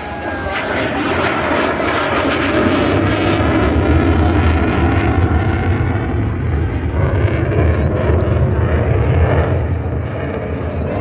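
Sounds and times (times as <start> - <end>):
military jet flying past: 0.0 - 11.0.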